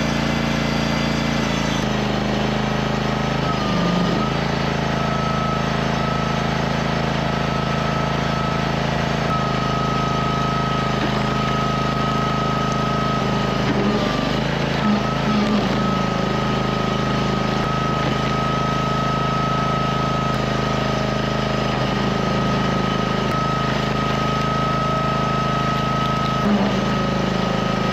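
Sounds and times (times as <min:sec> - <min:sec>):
band sawmill engine running: 0:00.0 - 0:27.9.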